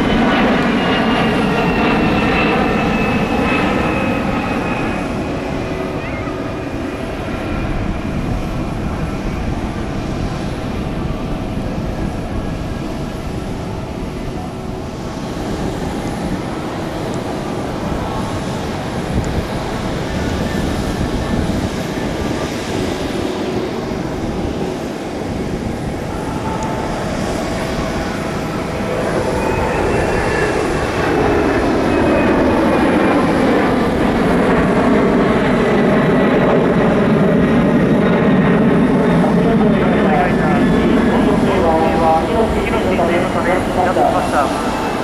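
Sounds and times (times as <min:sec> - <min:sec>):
jet engines whining: 0:00.0 - 0:45.0.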